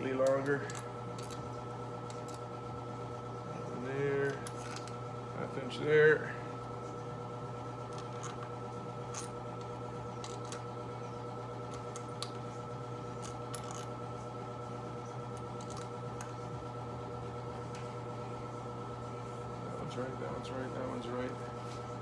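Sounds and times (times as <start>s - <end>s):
furnace humming: 0.0s - 22.0s.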